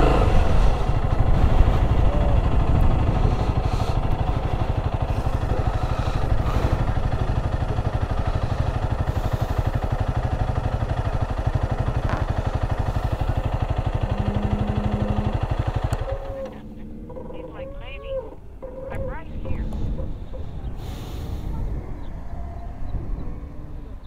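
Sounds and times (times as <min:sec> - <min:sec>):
motorcycle engine idling: 0:00.0 - 0:24.0
steady low tone: 0:00.0 - 0:24.0.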